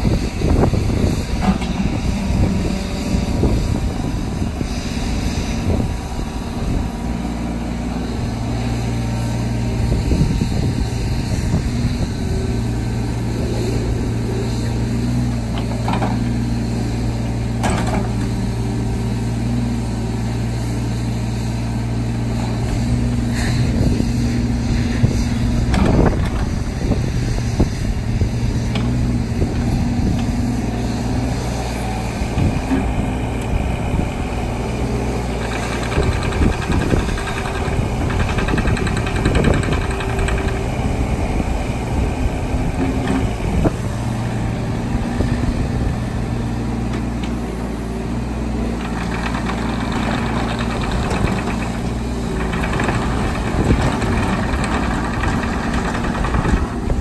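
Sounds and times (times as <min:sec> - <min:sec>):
diesel engine running steadily: 0:00.0 - 0:57.0.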